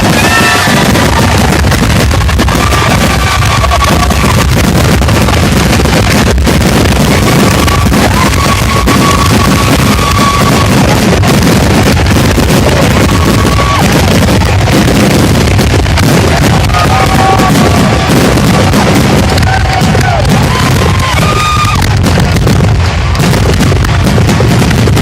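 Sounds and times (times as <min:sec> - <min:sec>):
fireworks barrage: 0:00.0 - 0:25.0.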